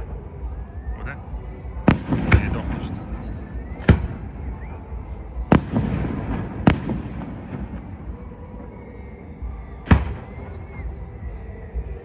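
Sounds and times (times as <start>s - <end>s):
rumbling echo: 0.0s - 12.0s
fireworks bangs: 1.7s - 12.0s.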